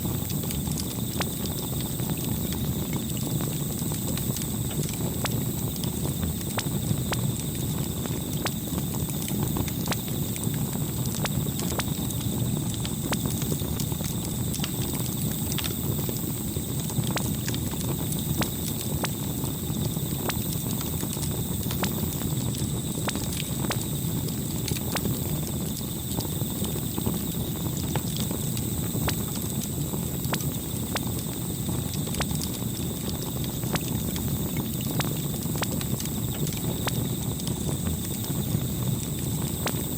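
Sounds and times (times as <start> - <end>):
burning wood crackling and popping: 0.0 - 39.9
campfire low rumble: 0.0 - 39.9.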